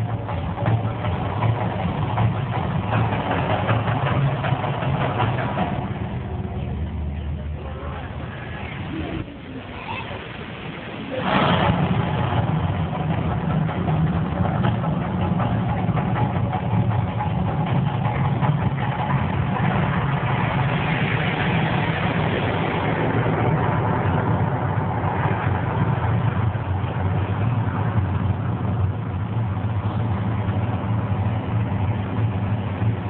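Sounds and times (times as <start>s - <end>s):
deep rumble: 0.0s - 33.0s
rushing noise: 0.0s - 33.0s.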